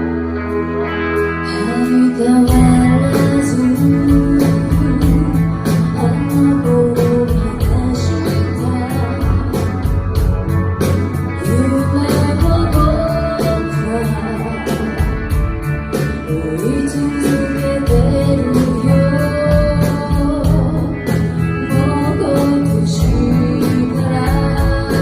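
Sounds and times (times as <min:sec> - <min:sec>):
person singing: 0:00.0 - 0:10.4, 0:11.4 - 0:25.0
live rock band playing: 0:00.0 - 0:25.0.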